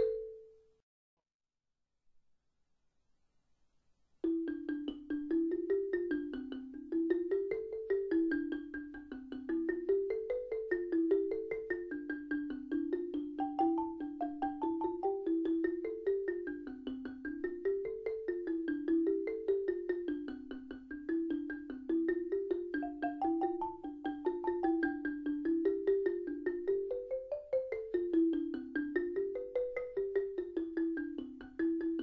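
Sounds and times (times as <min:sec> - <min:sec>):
background music melody: 0:00.0 - 0:00.8, 0:04.2 - 0:32.0.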